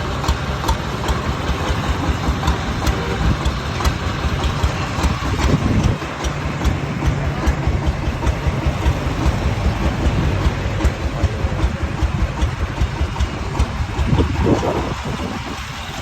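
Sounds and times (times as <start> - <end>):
single-cylinder diesel engine running: 0.0 - 16.0.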